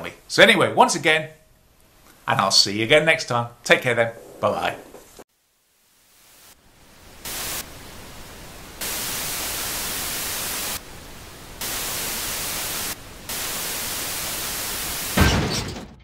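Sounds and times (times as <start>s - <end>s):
television static hiss: 0.0s - 15.2s.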